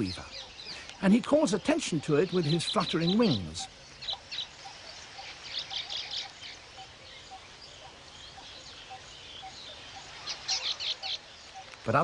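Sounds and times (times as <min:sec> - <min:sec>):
weaver birds chattering: 0:00.0 - 0:12.0.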